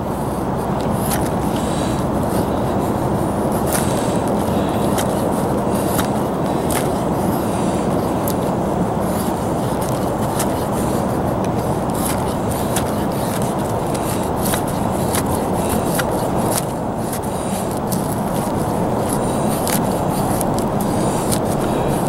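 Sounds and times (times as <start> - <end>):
knife scraping wood: 0.2 - 22.0.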